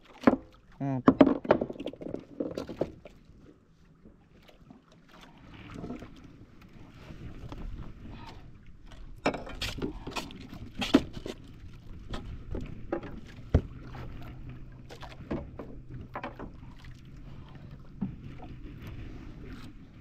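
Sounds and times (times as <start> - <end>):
knocks and clatters on boat: 0.0 - 20.0.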